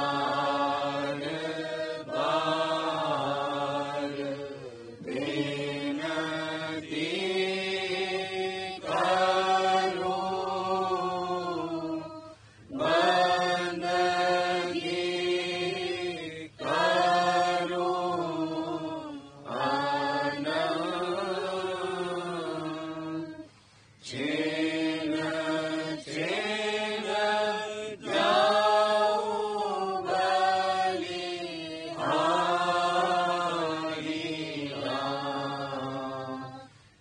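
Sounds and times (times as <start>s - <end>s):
person chanting a hymn: 0.0s - 37.0s.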